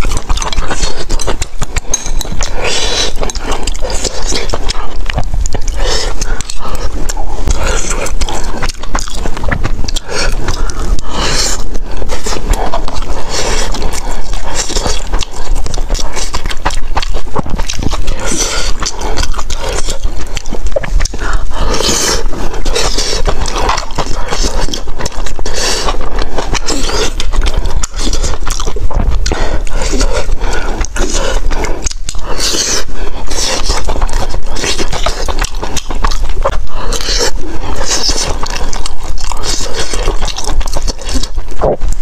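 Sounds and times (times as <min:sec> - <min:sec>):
wet chewing: 0:00.0 - 0:42.0.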